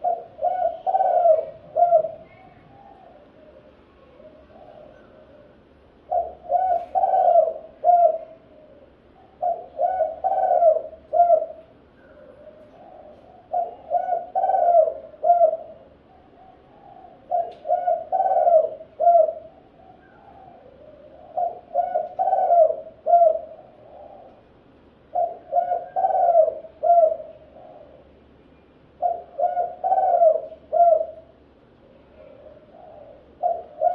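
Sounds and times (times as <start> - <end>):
dove cooing: 0.0 - 28.2, 29.0 - 33.9.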